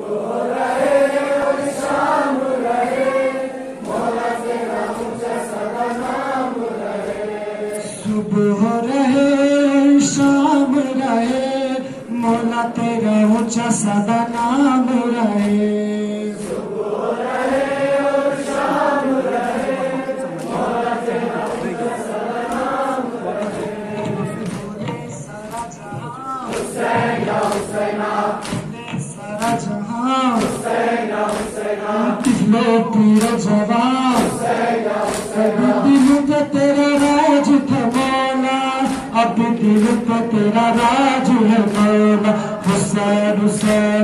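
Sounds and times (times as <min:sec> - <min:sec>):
men chanting a lament: 0:00.0 - 0:44.0.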